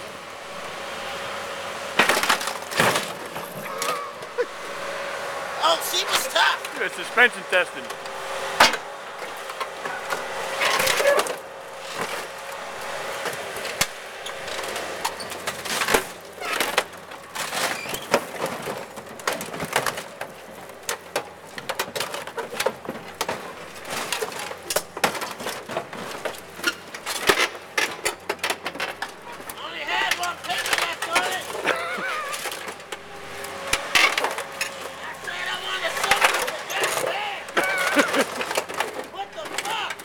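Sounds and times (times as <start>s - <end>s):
excavator crushing car metal: 0.1s - 40.0s.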